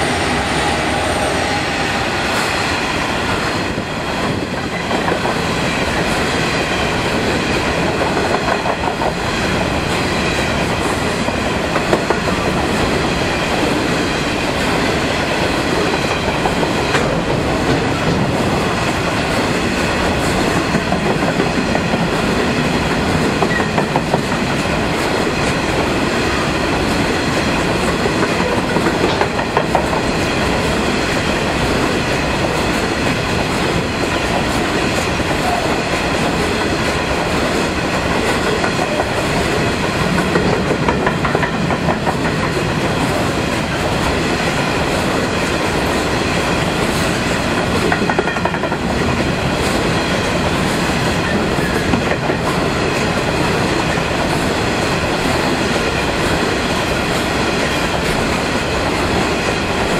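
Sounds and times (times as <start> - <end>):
train wheels rumbling and clacking: 0.0 - 59.9.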